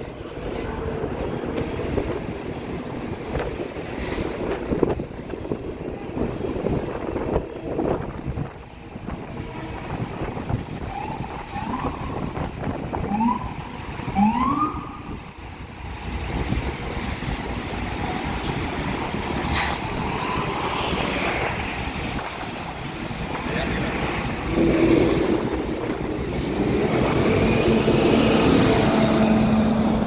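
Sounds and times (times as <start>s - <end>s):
bus rising whines: 0.0s - 30.0s
buses in street traffic: 0.0s - 30.0s.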